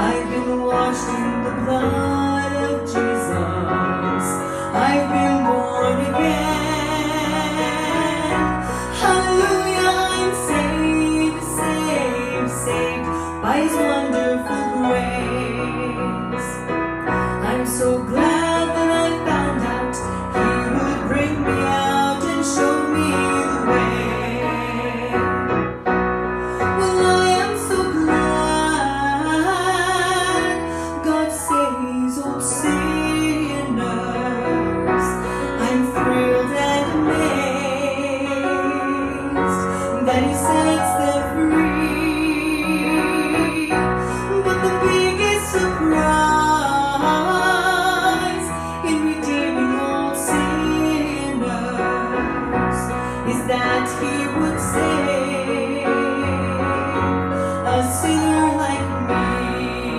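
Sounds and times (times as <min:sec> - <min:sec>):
woman singing gospel song: 0:00.0 - 0:16.6, 0:17.4 - 0:25.3, 0:26.8 - 0:59.9
piano accompaniment: 0:00.0 - 0:59.9.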